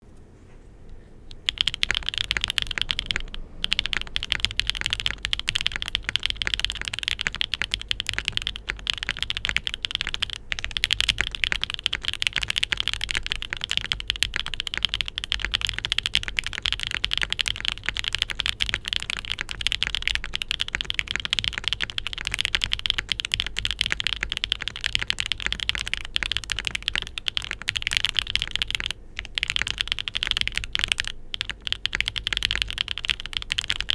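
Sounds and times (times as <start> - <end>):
fast mechanical keyboard typing: 1.3 - 33.9.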